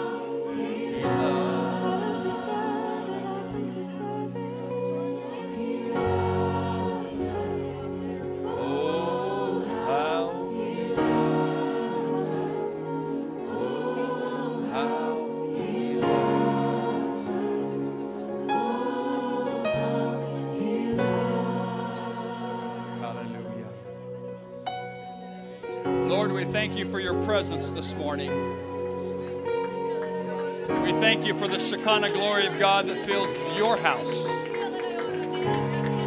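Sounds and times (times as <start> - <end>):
choir singing gospel: 0.0 - 36.0
sustained keyboard chords: 0.0 - 36.0.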